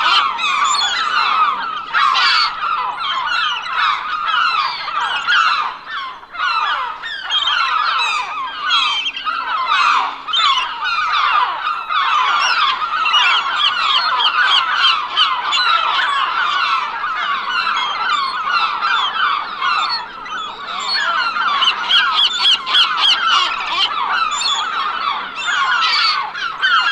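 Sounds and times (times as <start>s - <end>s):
flock of gulls calling: 0.0s - 26.9s.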